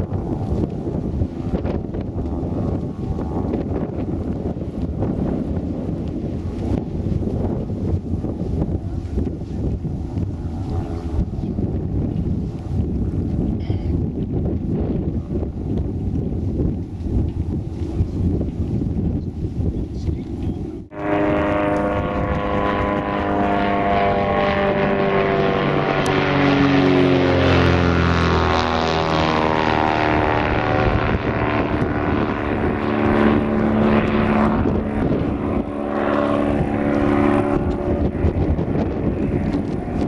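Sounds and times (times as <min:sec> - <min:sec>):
propeller plane flying overhead: 0:00.0 - 0:40.0.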